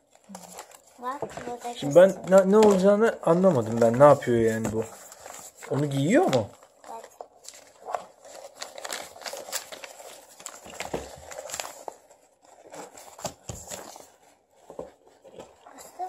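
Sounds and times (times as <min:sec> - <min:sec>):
paper and plastic crinkling: 0:00.0 - 0:16.0.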